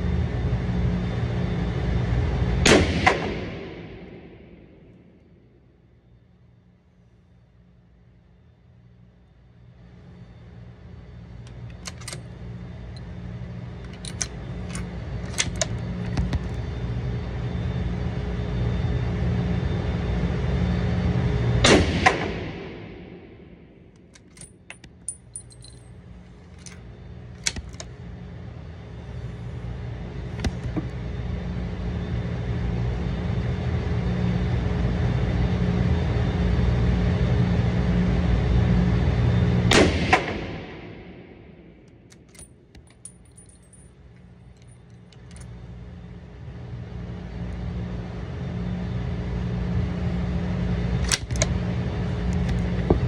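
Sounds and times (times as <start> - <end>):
motor-like hum: 0.0 - 53.0.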